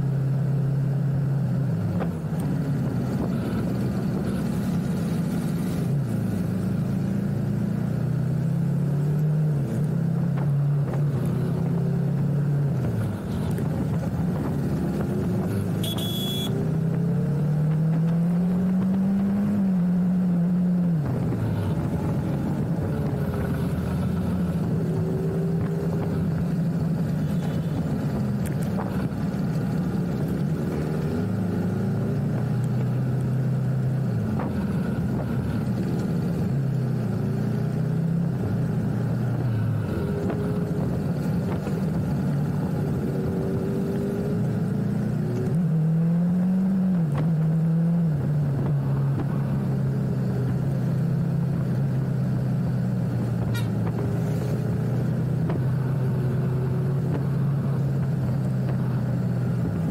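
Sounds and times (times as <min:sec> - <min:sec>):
motorcycle engine shifting gears: 0:01.2 - 0:59.9.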